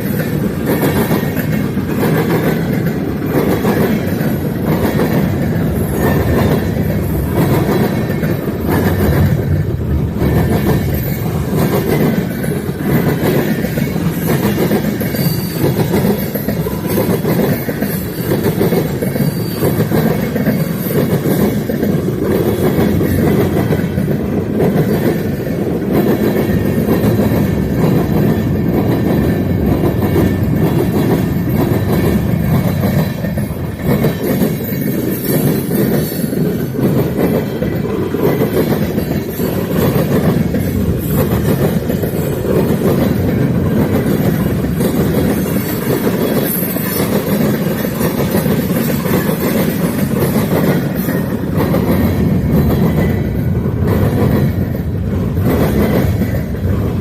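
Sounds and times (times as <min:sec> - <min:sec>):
freight train wheels rumbling: 0:00.0 - 0:57.0
train cars clickety-clack: 0:00.0 - 0:57.0.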